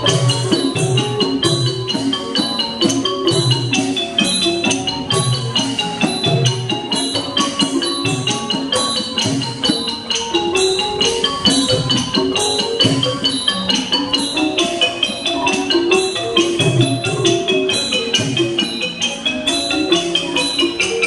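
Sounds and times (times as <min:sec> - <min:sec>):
wooden xylophone notes: 0:00.0 - 0:21.0.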